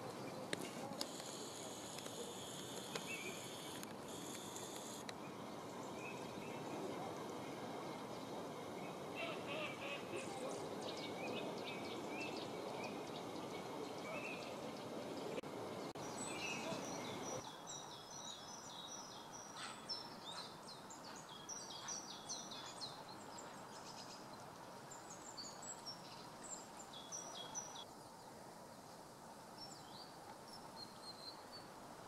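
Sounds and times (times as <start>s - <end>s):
birds chirping: 0.0s - 27.9s
steady background noise: 0.0s - 32.0s.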